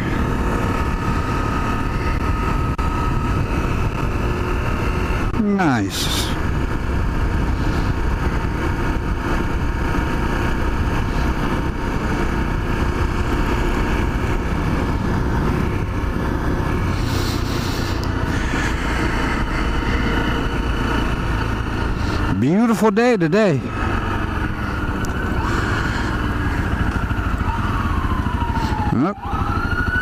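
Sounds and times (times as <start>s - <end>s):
motorcycle engine running: 0.0s - 30.0s
road noise: 0.0s - 30.0s.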